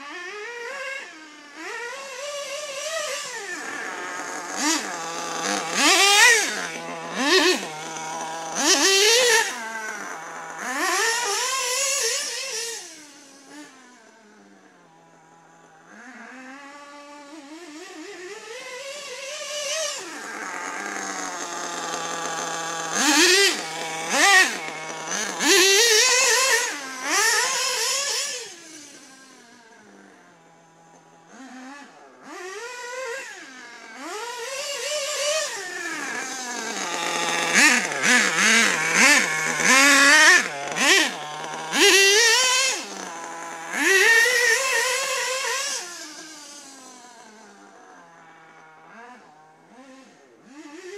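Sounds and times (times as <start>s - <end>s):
rc buggy engine revving: 0.0s - 50.9s.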